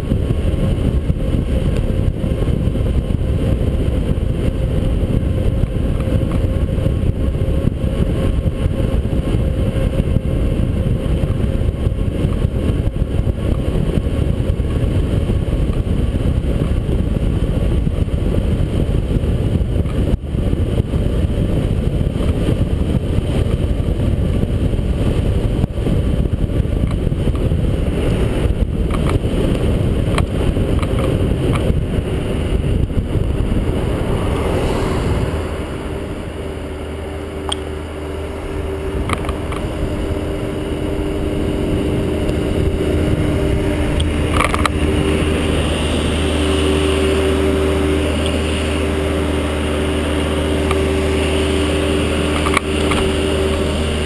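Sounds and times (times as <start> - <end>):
low hum of engines: 0.0 - 54.0
wind buffeting microphone: 0.0 - 54.0.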